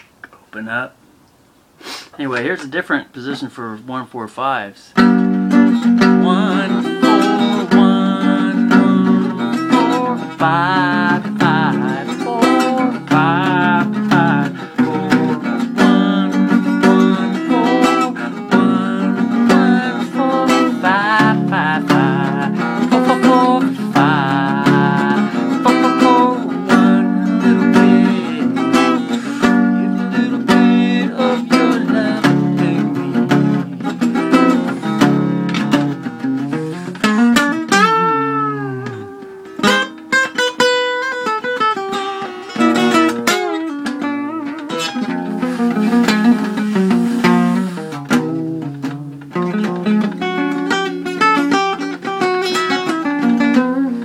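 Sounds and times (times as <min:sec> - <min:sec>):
acoustic guitar strumming chords: 0:02.2 - 0:54.0.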